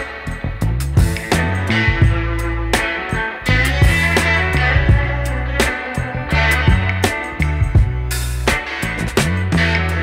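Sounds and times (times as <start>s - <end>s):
guitar over bass and drums: 0.0s - 10.0s.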